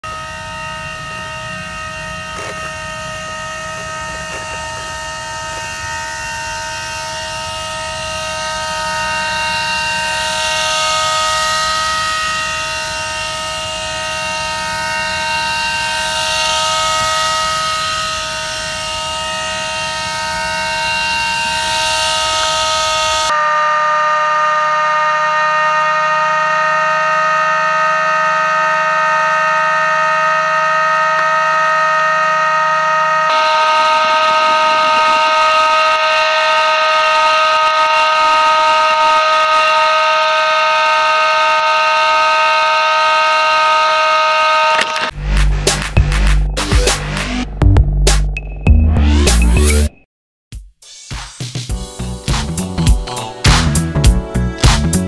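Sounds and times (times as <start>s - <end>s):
electric fan whining: 0.0s - 47.7s.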